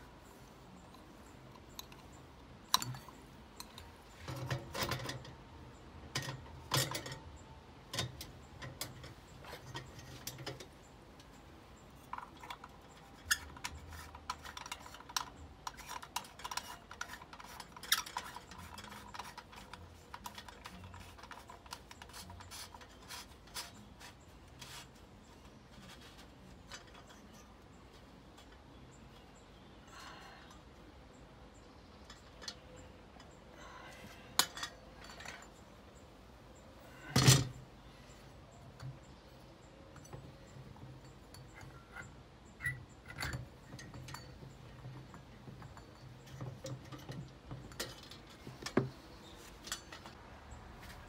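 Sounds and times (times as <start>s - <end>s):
chandelier parts clinking: 1.6s - 29.5s, 34.0s - 36.0s, 36.6s - 50.2s.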